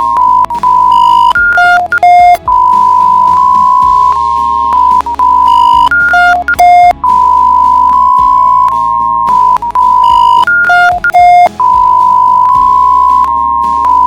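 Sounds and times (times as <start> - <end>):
low hum: 0.0 - 14.0
quick beeps at different pitches: 0.0 - 14.0
steady high alarm tone: 0.0 - 14.0.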